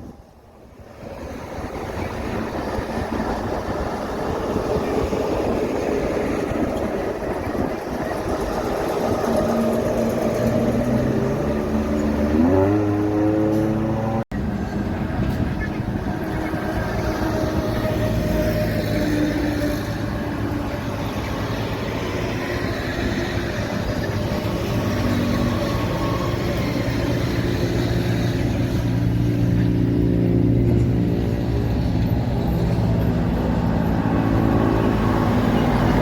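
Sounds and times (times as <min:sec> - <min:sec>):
truck engine drone: 0:00.0 - 0:36.0.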